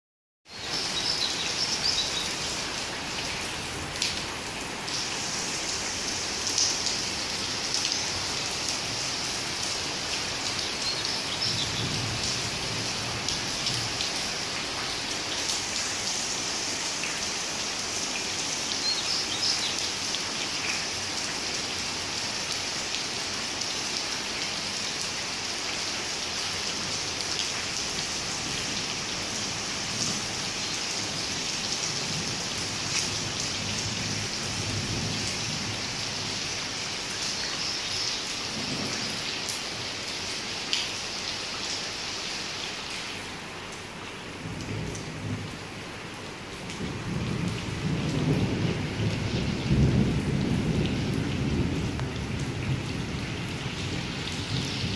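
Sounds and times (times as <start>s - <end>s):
steady rain hiss: 0.5s - 54.9s.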